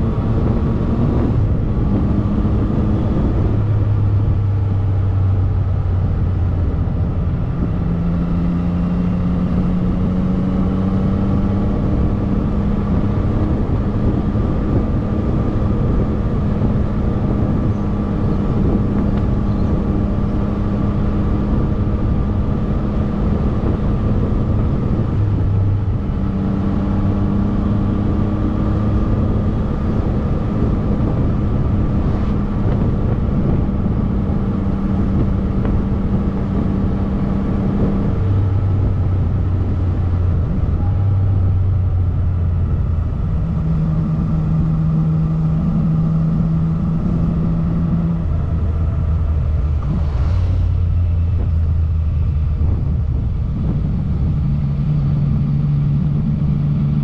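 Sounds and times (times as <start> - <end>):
motorcycle engine droning: 0.0 - 57.0
wind and road noise: 0.0 - 57.0.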